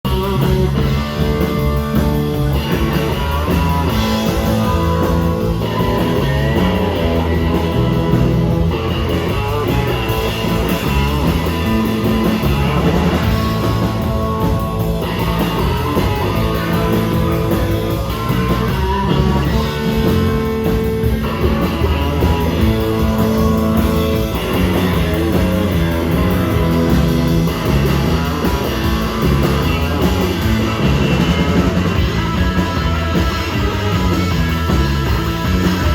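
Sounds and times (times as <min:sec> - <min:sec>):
drum kit steady beat: 0:00.0 - 0:35.9
electric guitar: 0:00.0 - 0:35.9.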